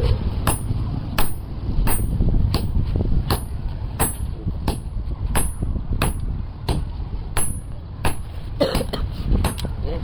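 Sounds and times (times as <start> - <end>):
steady low rumble: 0.0 - 10.0
hammer striking metal: 0.4 - 8.8.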